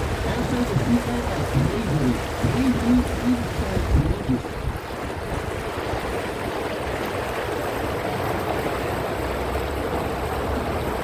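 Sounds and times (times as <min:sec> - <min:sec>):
boat motor hum: 0:00.0 - 0:11.0
water rushing along hull: 0:00.0 - 0:11.0.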